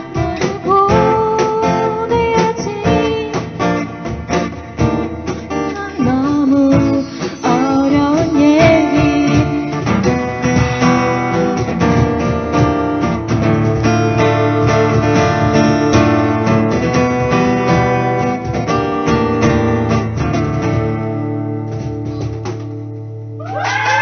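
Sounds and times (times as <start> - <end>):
acoustic guitar strumming chords: 0.0 - 23.4.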